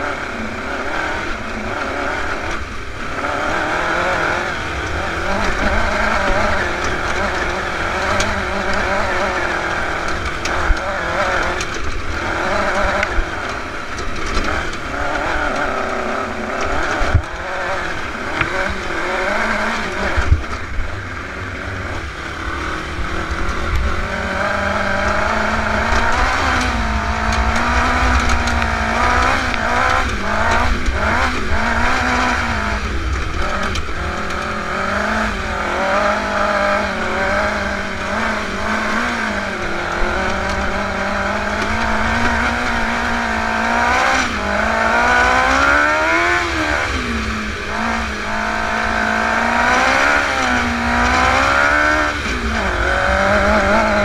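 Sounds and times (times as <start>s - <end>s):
buggy engine revving: 0.0s - 54.0s.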